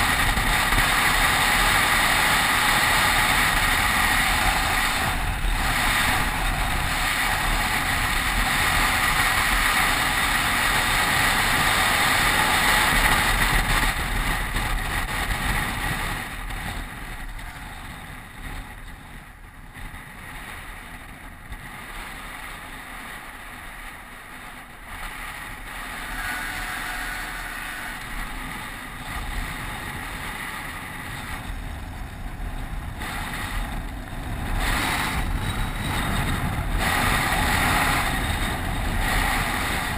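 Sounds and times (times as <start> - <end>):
bike tyres rolling on asphalt: 0.0 - 39.9
wind rushing over microphone: 0.0 - 39.9.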